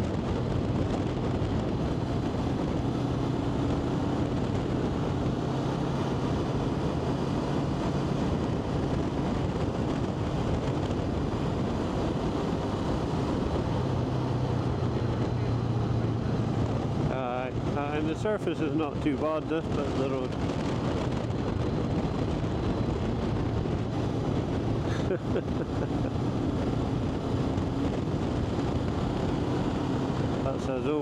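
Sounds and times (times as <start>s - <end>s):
vehicle engine humming: 0.0s - 31.0s
wind rush over microphone: 0.0s - 31.0s.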